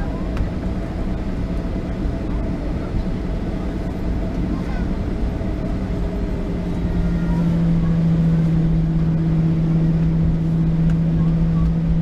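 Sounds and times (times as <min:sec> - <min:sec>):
jet engines taxiing cabin noise: 0:00.0 - 0:12.0.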